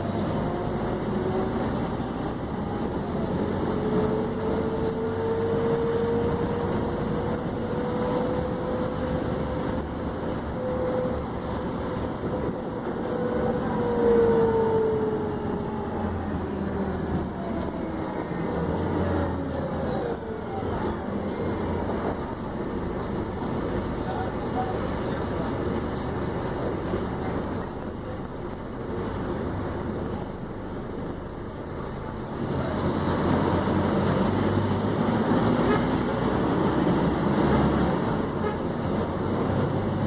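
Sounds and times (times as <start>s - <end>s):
bus engine rumbling: 0.0s - 40.0s.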